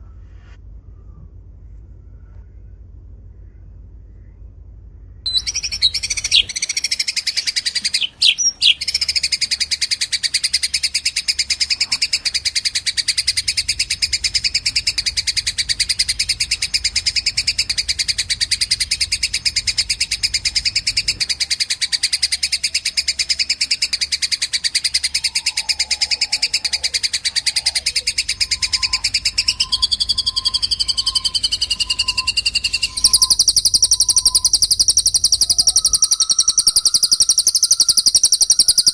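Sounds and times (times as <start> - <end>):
small songbirds chirping: 5.2 - 38.9.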